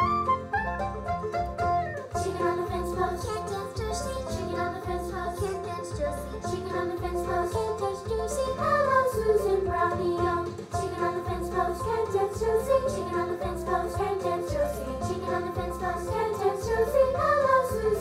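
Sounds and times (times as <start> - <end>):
children's song with singing: 2.0 - 18.0.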